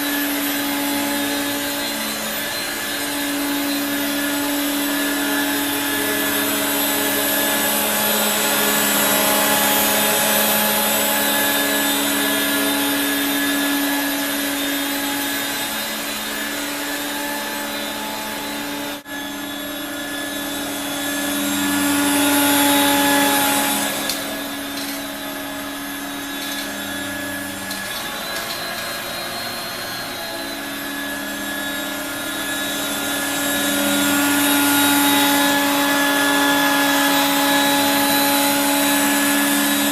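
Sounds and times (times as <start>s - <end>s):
stick vacuum running: 0.0s - 39.9s.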